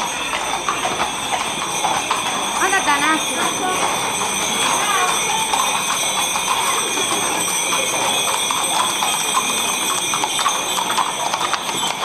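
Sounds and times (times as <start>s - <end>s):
bells jingling: 0.0s - 12.0s
hooves clopping on street: 0.0s - 12.0s
murmur of crowd voices: 0.0s - 12.0s.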